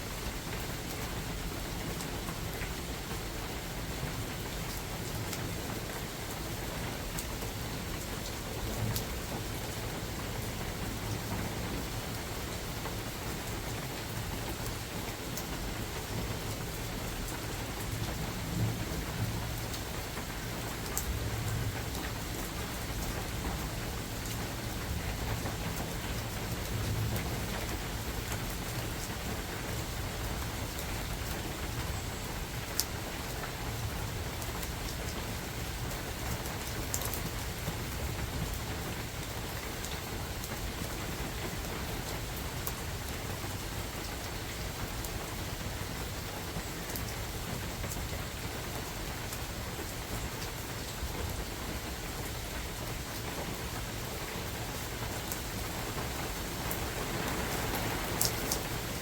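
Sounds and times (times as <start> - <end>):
rain falling through forest: 0.0 - 59.0
sharp raindrops striking close: 0.1 - 59.0.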